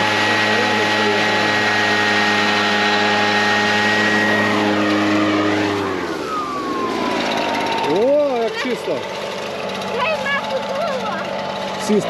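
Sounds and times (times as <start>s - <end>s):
fan whine: 0.0s - 12.0s
leaf blower engine: 0.0s - 12.0s.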